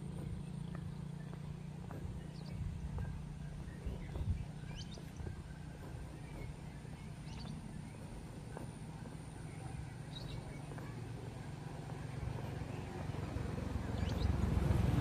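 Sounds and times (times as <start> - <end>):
bird chirping: 0.0 - 15.0
footsteps on asphalt: 0.0 - 15.0
steady low rumble: 0.0 - 15.0.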